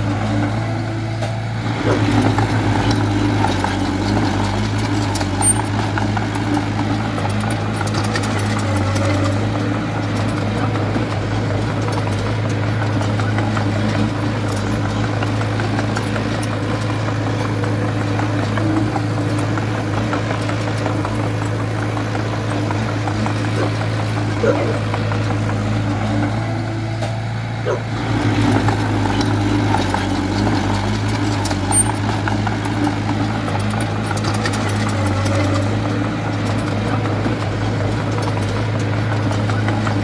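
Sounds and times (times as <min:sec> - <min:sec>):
bulldozer diesel engine running: 0:00.0 - 0:40.0
light clicks and clanks: 0:02.8 - 0:25.6, 0:28.4 - 0:40.0.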